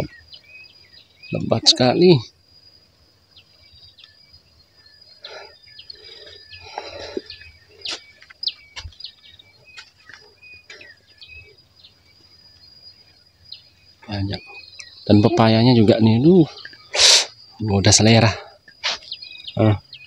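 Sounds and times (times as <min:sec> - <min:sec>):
birds chirping: 0:00.0 - 0:20.0
high insect drone: 0:00.0 - 0:20.0.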